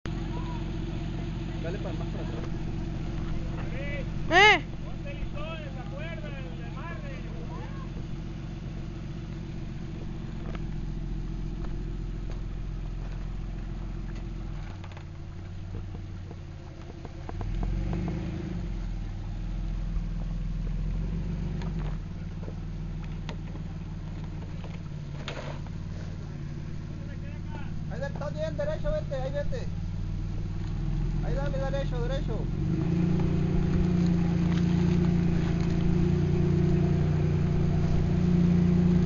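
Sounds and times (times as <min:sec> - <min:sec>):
off-road vehicle engine crawling: 0:00.0 - 0:39.0.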